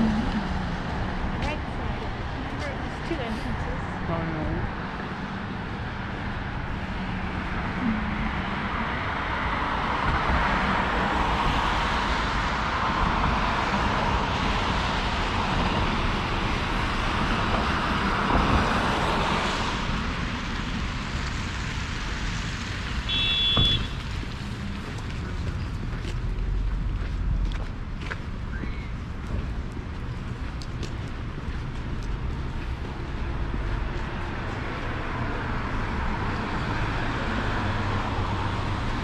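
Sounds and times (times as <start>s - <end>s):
passing vehicles: 0.0s - 39.0s.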